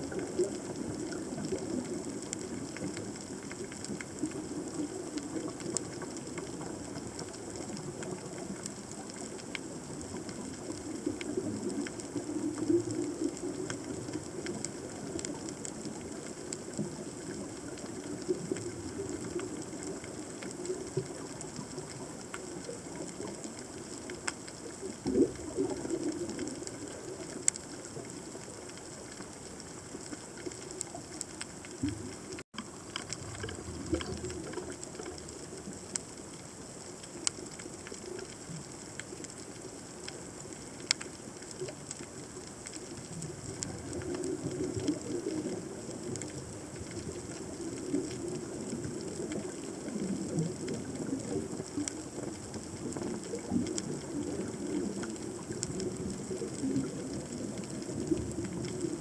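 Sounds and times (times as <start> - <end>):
rumble of moving water: 0.0 - 59.0.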